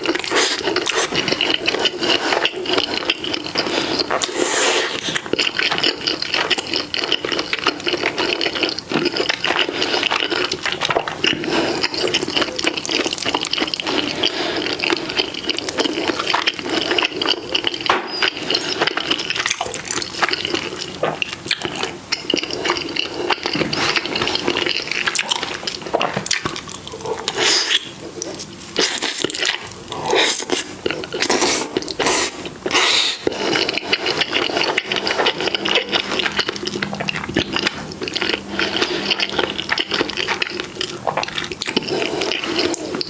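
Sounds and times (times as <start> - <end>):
wet chewing and slurping: 0.0 - 43.0.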